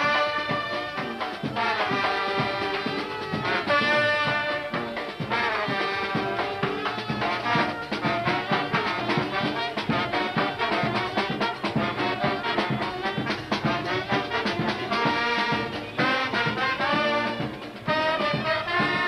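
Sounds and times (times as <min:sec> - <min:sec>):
brass band playing: 0:00.0 - 0:19.0
snare drums: 0:00.0 - 0:19.0.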